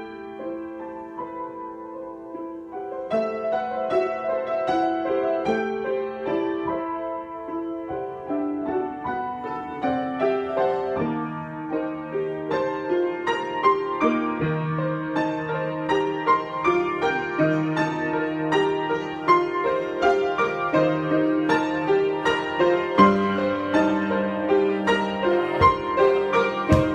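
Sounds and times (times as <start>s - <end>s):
solo piano improvisation: 0.0s - 26.9s.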